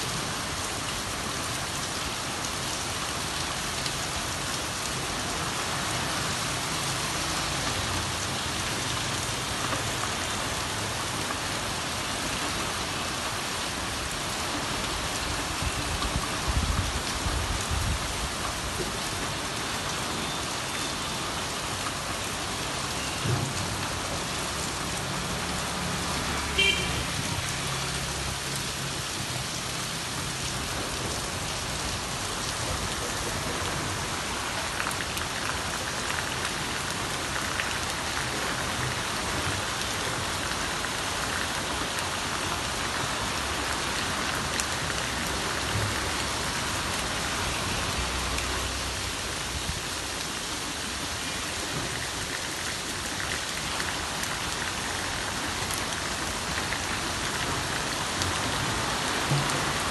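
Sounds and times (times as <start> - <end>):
rain on wet paving: 0.0 - 59.9.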